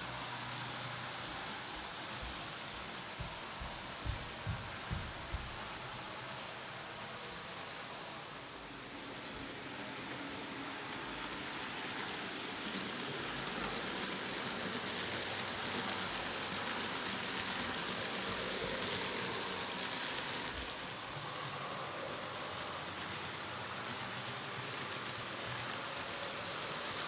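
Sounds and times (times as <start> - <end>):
model train rolling on track: 0.0 - 27.0.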